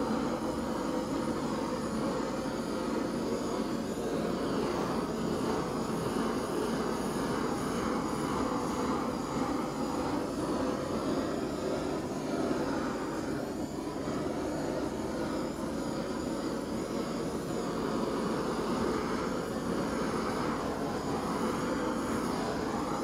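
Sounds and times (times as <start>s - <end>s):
torch flame hissing: 0.0s - 23.0s.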